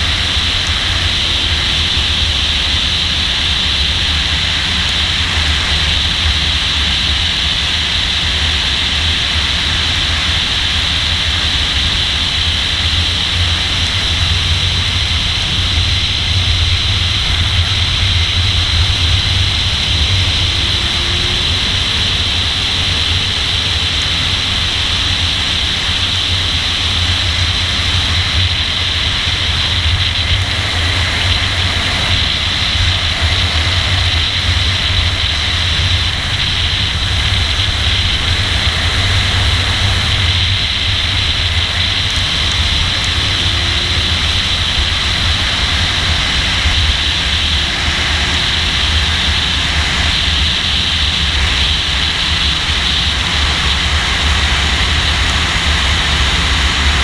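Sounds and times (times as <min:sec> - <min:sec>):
car engine at speed: 0:00.0 - 0:57.0.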